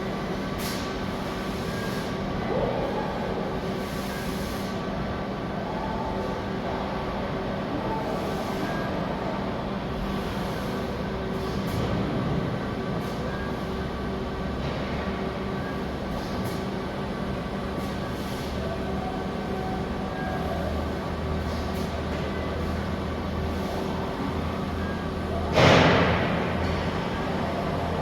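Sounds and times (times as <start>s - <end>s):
industrial machinery noise: 0.0s - 28.0s.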